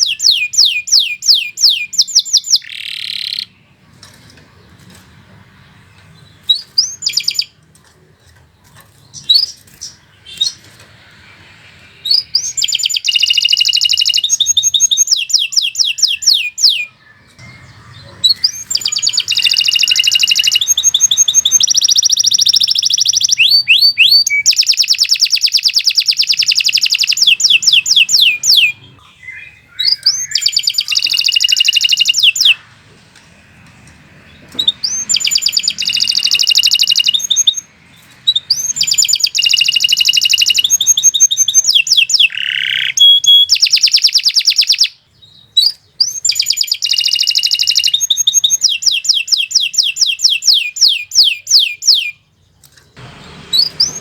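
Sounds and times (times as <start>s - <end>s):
canary singing rapid trills: 0.0s - 5.0s, 6.2s - 7.6s, 12.0s - 32.7s, 34.3s - 52.2s, 53.5s - 54.0s.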